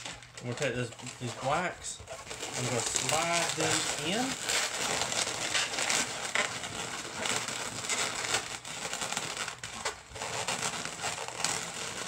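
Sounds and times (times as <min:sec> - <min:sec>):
balloons rubbing together: 0:00.0 - 0:12.0
short scratchy balloon strokes: 0:00.0 - 0:12.0.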